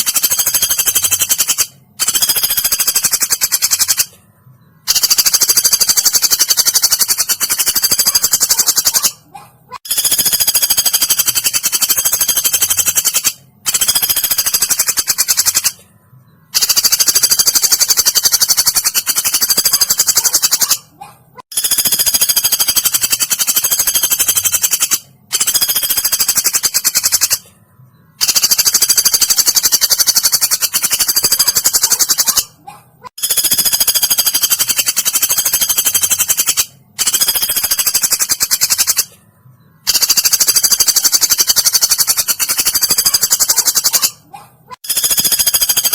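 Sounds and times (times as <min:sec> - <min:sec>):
woodpecker rattling trills: 0:00.0 - 0:04.2, 0:04.8 - 0:15.8, 0:16.5 - 0:27.5, 0:28.2 - 0:39.2, 0:39.8 - 0:45.9.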